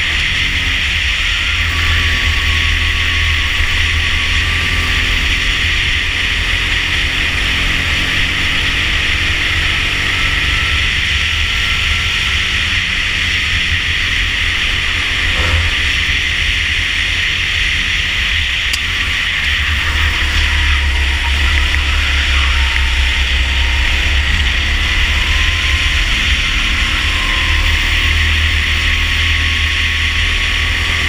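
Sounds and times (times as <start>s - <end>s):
kart engine running: 0.0s - 31.0s.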